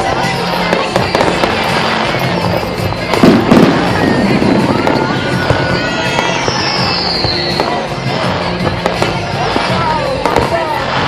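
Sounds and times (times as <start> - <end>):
firework whistle: 0.0 - 11.0
fireworks bursting and crackling: 0.0 - 11.0
music: 0.0 - 11.0.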